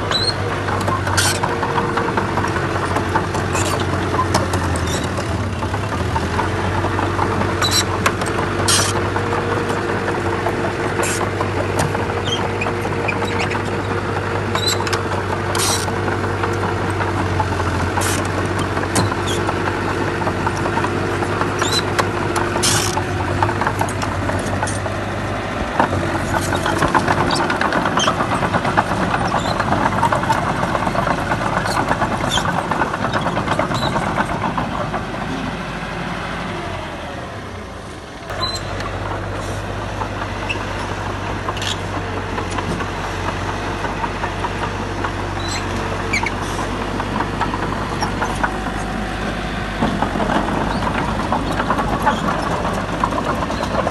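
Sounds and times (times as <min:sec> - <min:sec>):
clanks and knocks: 0:00.0 - 0:35.5, 0:38.3 - 0:53.9
heavy machinery diesel engine: 0:00.0 - 0:53.9.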